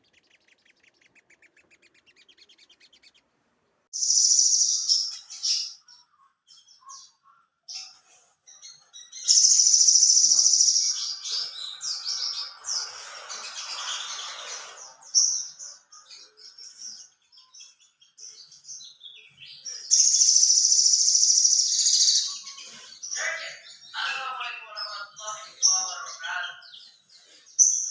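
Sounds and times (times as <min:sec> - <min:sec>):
bird chirps: 0:00.0 - 0:03.3, 0:03.9 - 0:27.9
bird singing rapid trills: 0:00.0 - 0:03.3, 0:04.0 - 0:27.9.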